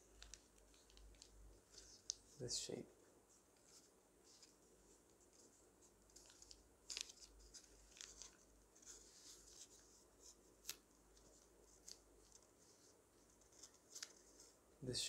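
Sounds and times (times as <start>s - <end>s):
paper rustling and crinkling: 0.0s - 2.4s, 3.5s - 14.6s.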